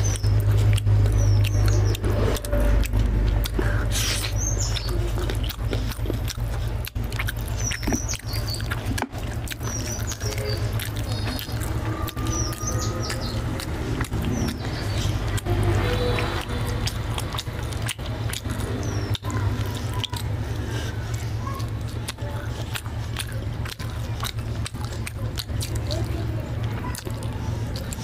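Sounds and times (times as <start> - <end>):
eating sounds: 0.0 - 28.0.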